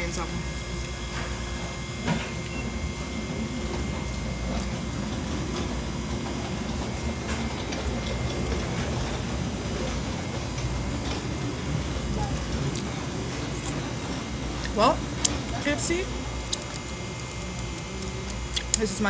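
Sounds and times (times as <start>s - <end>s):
dining room rumble and hum: 0.0s - 19.0s.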